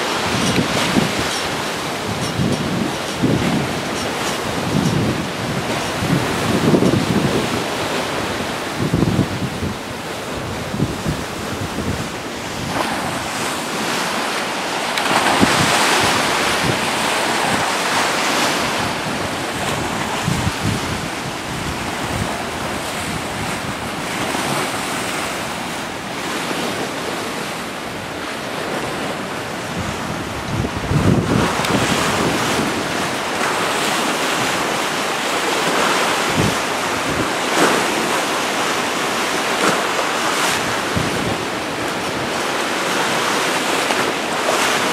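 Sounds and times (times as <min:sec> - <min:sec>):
strong wind buffeting microphone: 0:00.0 - 0:38.7, 0:40.3 - 0:44.9
rough water churning: 0:00.0 - 0:44.9.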